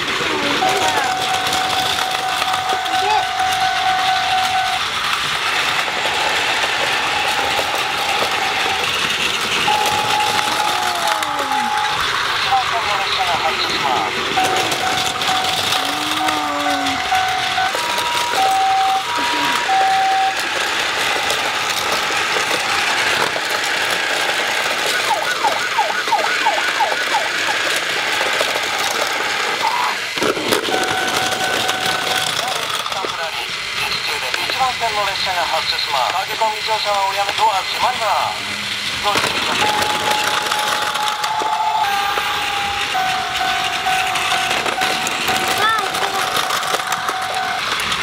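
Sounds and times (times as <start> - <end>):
toy train motors whirring: 0.0 - 48.0.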